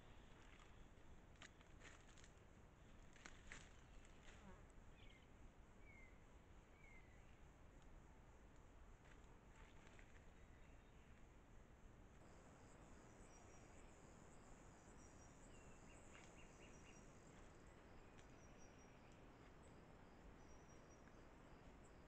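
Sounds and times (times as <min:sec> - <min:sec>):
faint insect chirping: 0:00.0 - 0:22.0
low background hiss: 0:00.0 - 0:22.0.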